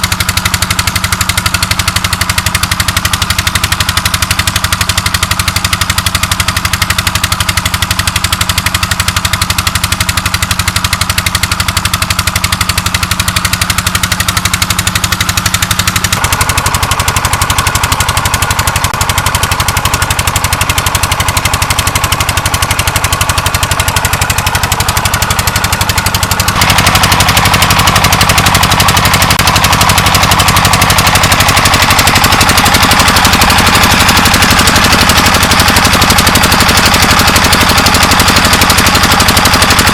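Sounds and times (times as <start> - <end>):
diesel pump engine running: 0.0 - 39.9.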